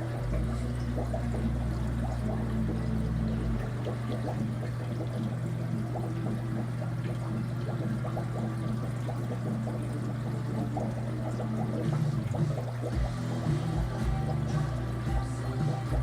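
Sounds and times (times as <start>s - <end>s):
aquarium water trickling and bubbling: 0.0s - 16.0s
small water splashes: 0.0s - 16.0s
steady low hum: 0.0s - 16.0s.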